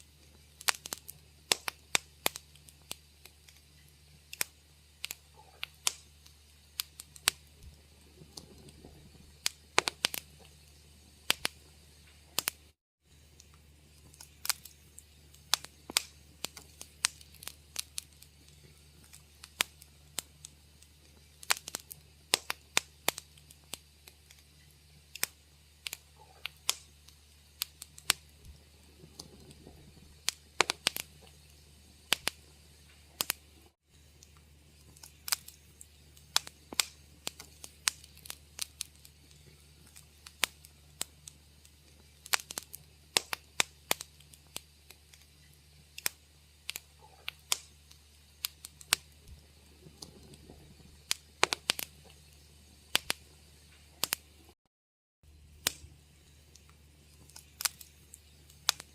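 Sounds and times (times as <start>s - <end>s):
low steady hum: 0.0s - 54.6s, 55.2s - 58.9s
wood fire crackling and popping: 0.0s - 54.6s, 55.4s - 58.9s.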